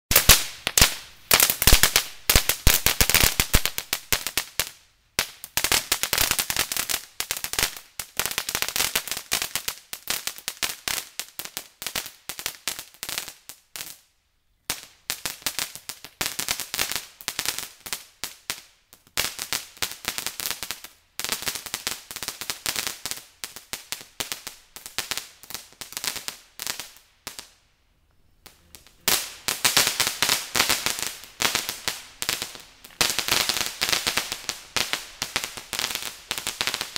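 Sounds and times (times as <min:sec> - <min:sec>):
firework crackling pops: 0:00.1 - 0:36.9.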